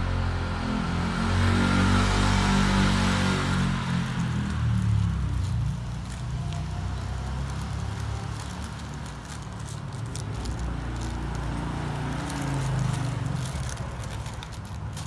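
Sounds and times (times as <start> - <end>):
paper crinkling: 2.8 - 15.0.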